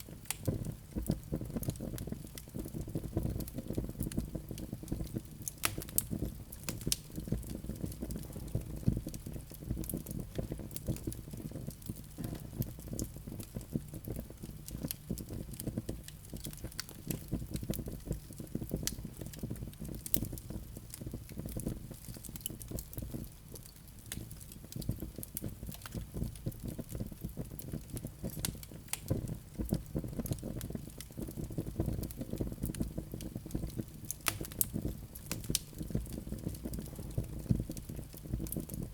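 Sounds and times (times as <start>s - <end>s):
log fire crackling: 0.0s - 38.9s
low rumble of burning fire: 0.0s - 38.9s.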